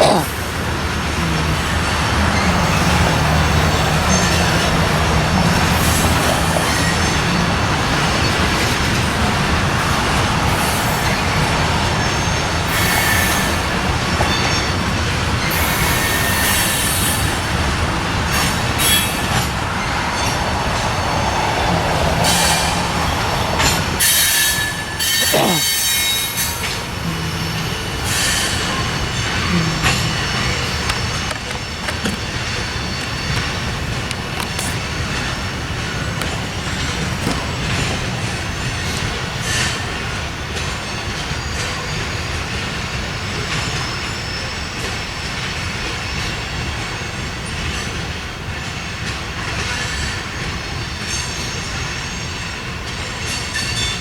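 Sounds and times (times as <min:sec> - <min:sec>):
train wheels rumbling on rail: 0:00.0 - 0:54.0
train flanges squealing: 0:00.3 - 0:54.0.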